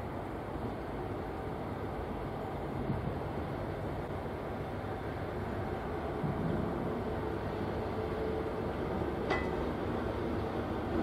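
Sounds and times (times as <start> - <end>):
freight train rumbling on tracks: 0.0 - 11.0.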